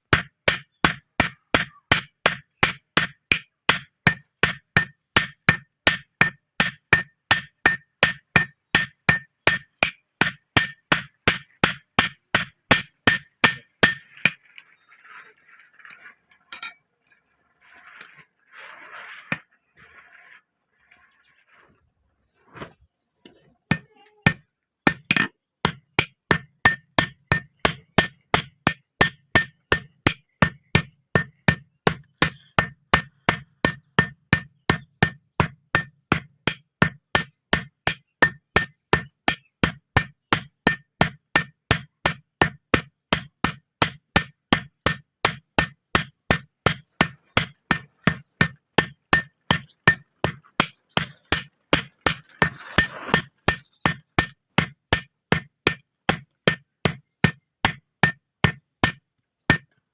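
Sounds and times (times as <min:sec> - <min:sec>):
hammer beating iron on anvil: 0:00.0 - 0:14.4, 0:16.5 - 0:16.8, 0:23.7 - 0:59.8.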